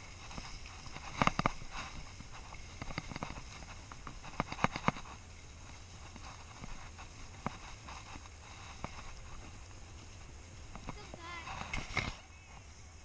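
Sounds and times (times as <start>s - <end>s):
low steady rumble: 0.0s - 13.0s
skis sliding over snow: 0.0s - 13.0s.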